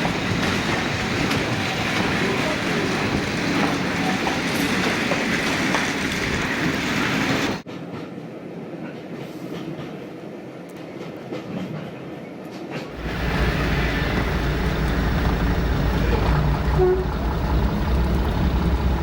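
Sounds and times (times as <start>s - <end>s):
train wheels clattering over rails: 0.0s - 10.2s, 10.8s - 19.0s.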